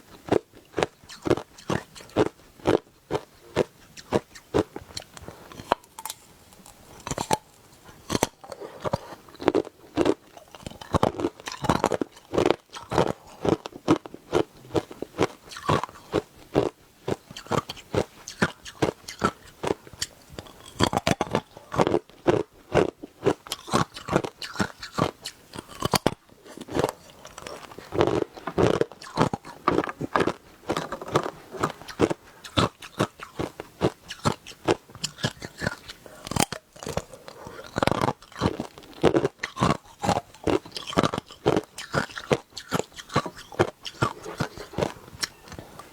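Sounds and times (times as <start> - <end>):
ice being chewed: 0.1 - 45.9.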